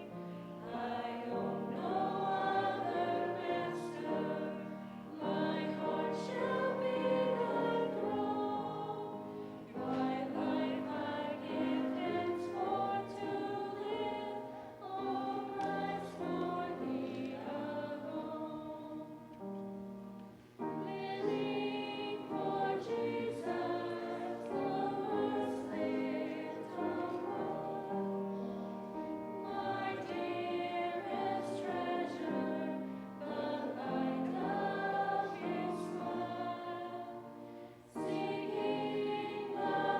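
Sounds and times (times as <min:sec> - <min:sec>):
group of voices singing: 0:00.0 - 0:19.2, 0:20.7 - 0:28.4, 0:29.0 - 0:39.9.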